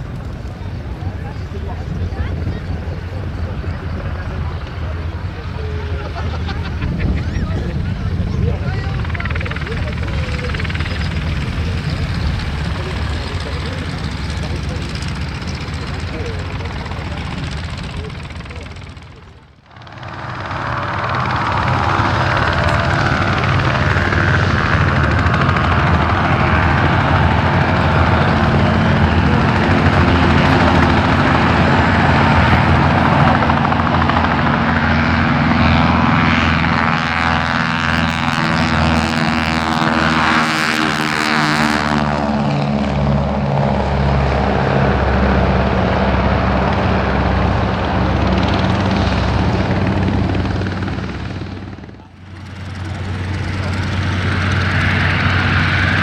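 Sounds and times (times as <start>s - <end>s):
aircraft engine running: 0.0s - 56.0s
aircraft passing rush: 0.0s - 56.0s.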